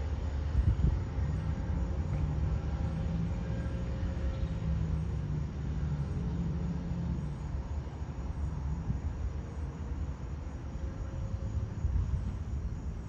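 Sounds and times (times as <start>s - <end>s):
distant diesel train engine drone: 0.0s - 13.0s.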